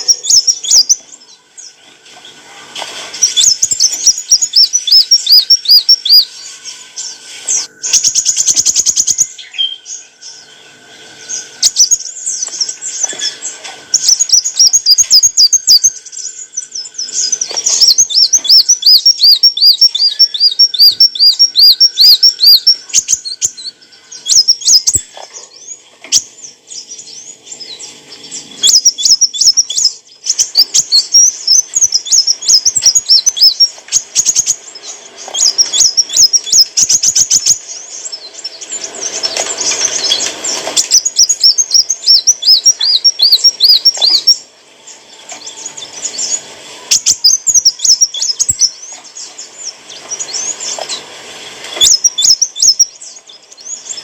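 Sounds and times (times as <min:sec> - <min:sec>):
sunbird singing: 0:00.0 - 0:54.0.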